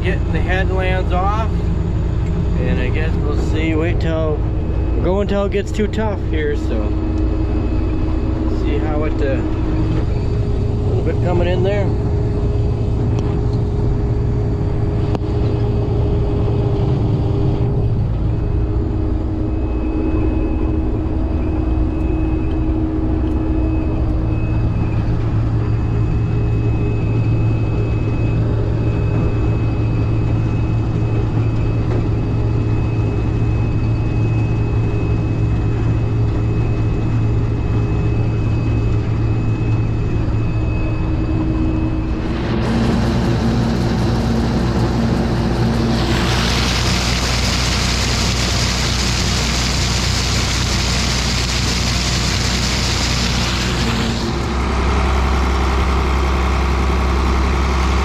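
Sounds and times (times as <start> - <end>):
thin high whine: 0.0 - 57.6
combine harvester engine hum: 0.0 - 58.0.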